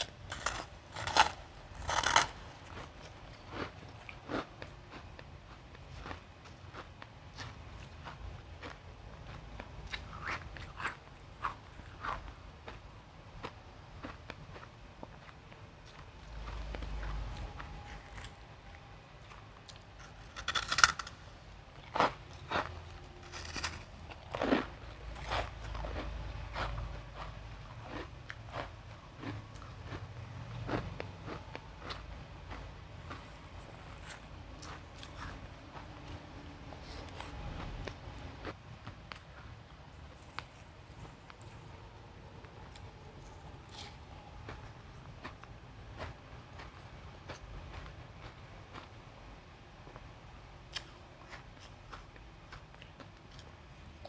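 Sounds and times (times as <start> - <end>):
ice being chewed: 0.0 - 41.7, 42.4 - 48.9.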